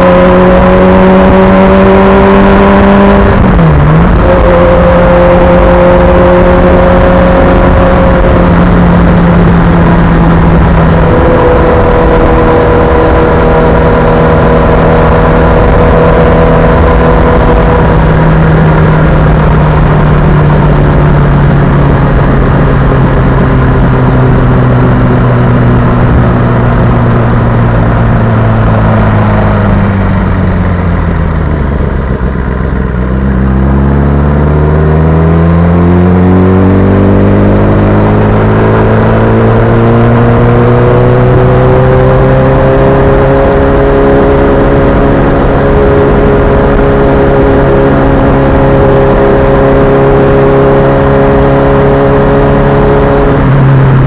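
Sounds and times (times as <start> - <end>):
heavy wind rush: 0.0 - 54.0
motorcycle engine running: 0.0 - 54.0.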